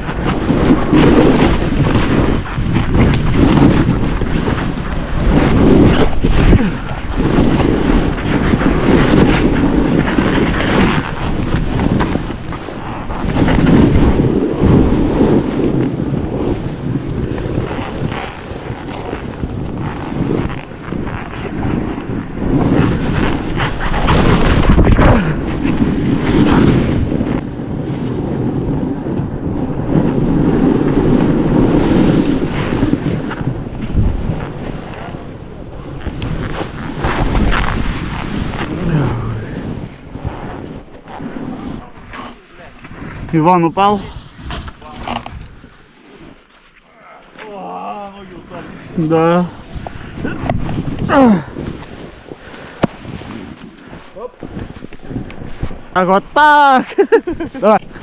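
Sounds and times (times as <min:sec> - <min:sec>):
snowboard scraping over snow: 0:00.0 - 0:58.0
wind buffeting microphone: 0:00.0 - 0:58.0.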